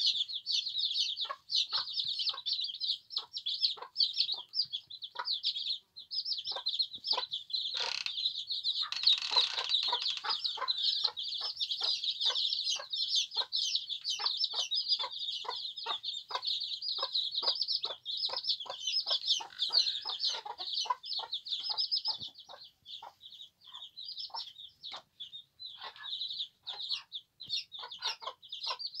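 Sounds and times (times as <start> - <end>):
chicks peeping: 0.0 - 29.0
hen clucking: 0.0 - 29.0.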